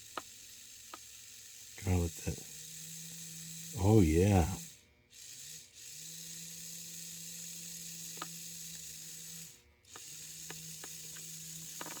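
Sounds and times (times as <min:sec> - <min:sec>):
small electric motor humming: 0:00.0 - 0:12.0.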